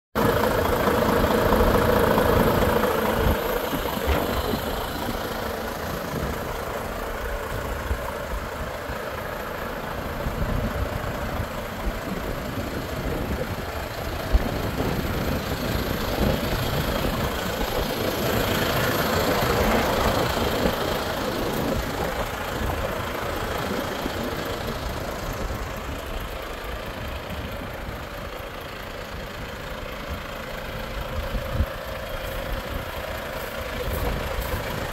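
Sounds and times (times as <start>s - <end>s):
diesel truck engine idling: 0.2s - 34.9s.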